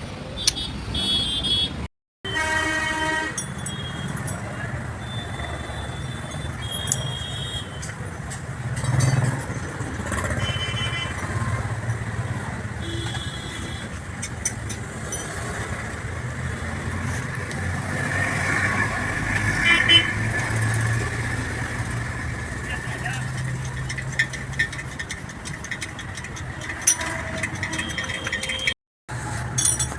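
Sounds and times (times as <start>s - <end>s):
road traffic engine drone: 0.0s - 29.9s.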